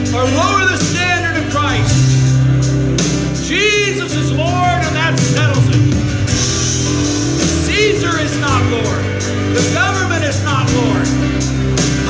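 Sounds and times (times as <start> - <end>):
instrumental backing with bass: 0.0 - 12.0.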